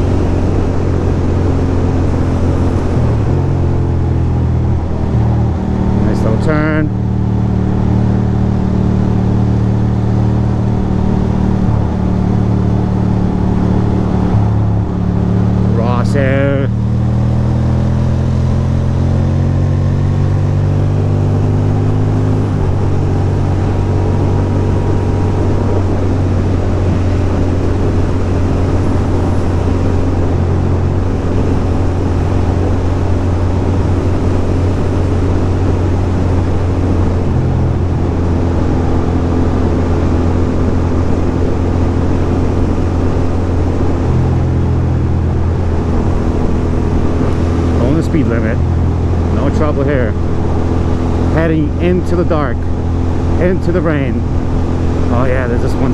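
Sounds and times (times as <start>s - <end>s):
motorcycle engine cruising: 0.0s - 55.9s
wind and road noise: 0.0s - 55.9s.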